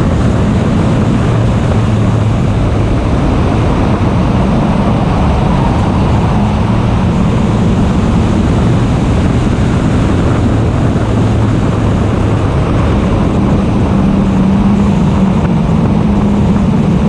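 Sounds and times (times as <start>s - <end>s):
race car engine: 0.0s - 17.0s
wind rush: 0.0s - 17.0s.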